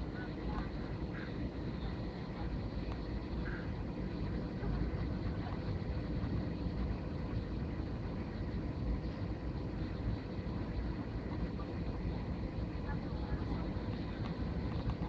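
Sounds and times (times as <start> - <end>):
airliner cabin engine rumble: 0.0 - 15.0
faint steady hum: 0.0 - 15.0.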